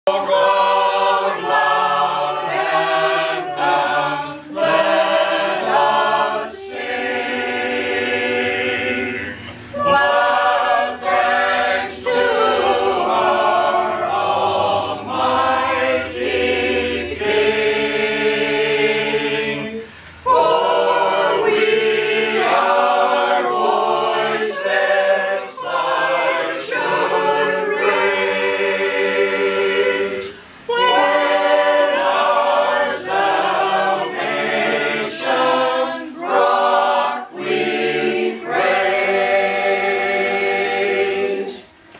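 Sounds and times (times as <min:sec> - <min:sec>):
group singing a hymn a cappella: 0:00.0 - 0:41.9.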